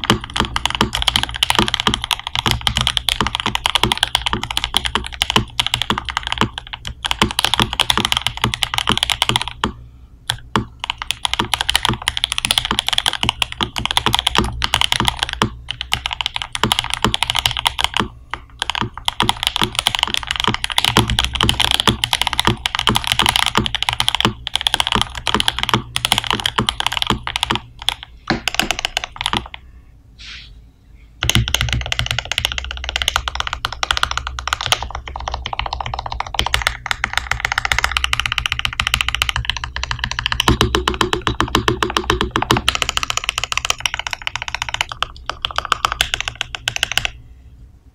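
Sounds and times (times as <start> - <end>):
mechanical keyboard typing: 0.0 - 29.6, 31.2 - 47.2.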